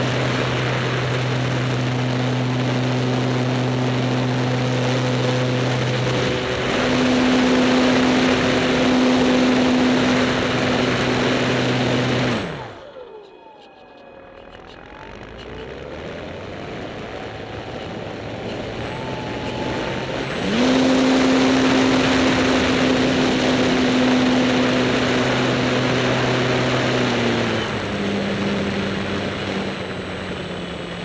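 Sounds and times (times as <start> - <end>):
model plane motor droning: 0.0 - 31.0.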